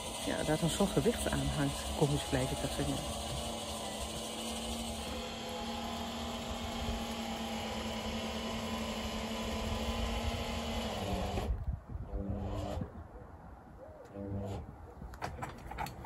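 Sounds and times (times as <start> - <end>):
electric motors whirring: 0.0 - 12.9.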